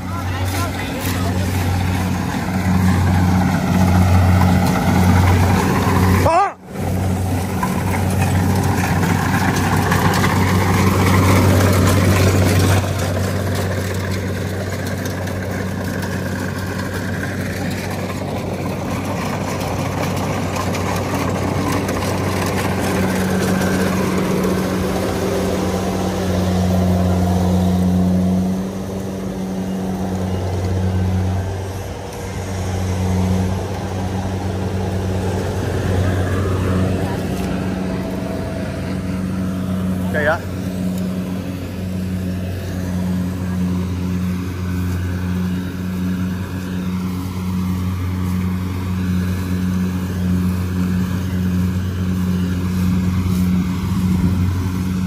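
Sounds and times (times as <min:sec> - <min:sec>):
engine humming steadily: 0:00.0 - 0:55.0.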